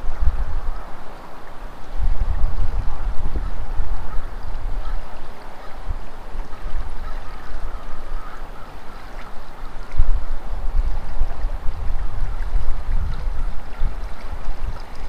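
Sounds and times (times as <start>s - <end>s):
creek water flowing: 0.0s - 15.0s
wind buffeting microphone: 0.0s - 15.0s.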